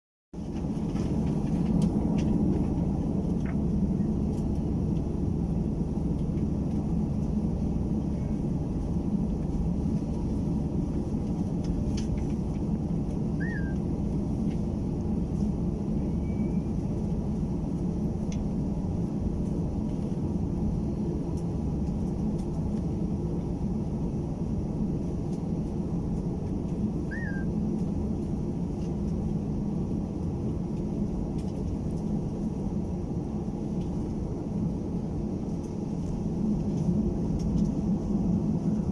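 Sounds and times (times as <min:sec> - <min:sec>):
airplane cabin engine rumble: 0:00.3 - 0:38.9.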